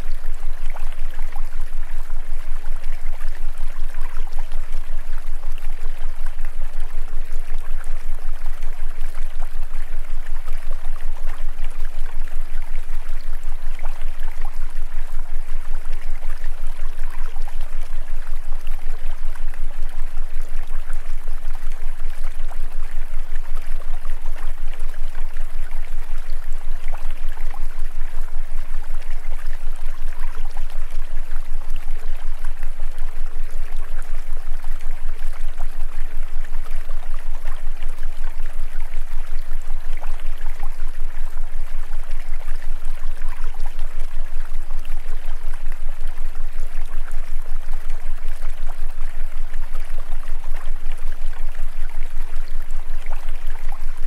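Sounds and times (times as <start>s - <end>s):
constant low hum: 0.0s - 54.0s.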